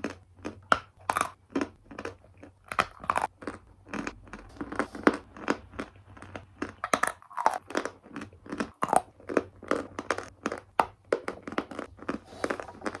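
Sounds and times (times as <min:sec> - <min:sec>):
person chewing crunchy chalk: 0:00.0 - 0:13.0.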